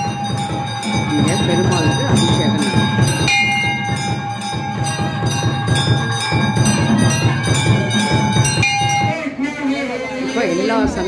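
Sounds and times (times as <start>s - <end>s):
bells ringing fast: 0.0s - 11.0s.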